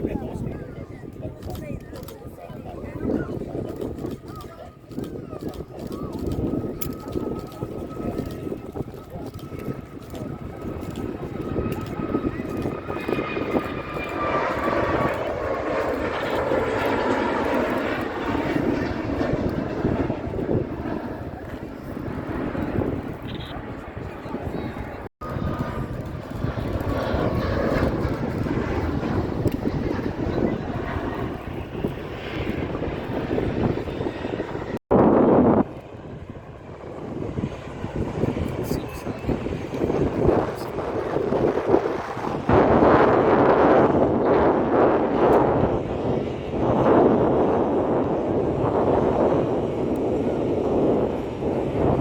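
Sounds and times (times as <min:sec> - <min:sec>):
jet airliner taking off: 0:00.0 - 0:52.0.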